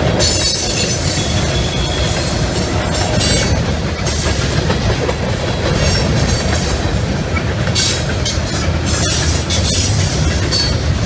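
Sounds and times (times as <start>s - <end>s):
train wheels rumbling on rails: 0.0s - 11.0s
wheels clacking over rail joints: 0.0s - 11.0s.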